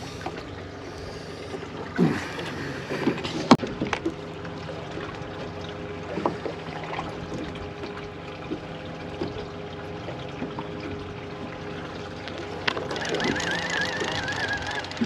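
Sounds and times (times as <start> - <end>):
boat motor humming: 0.0 - 15.0
water trickling and lapping: 0.0 - 15.0.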